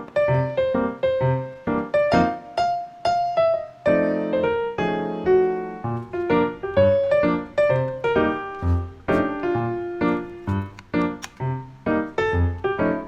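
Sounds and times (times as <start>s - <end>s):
lively piano music: 0.0s - 13.0s.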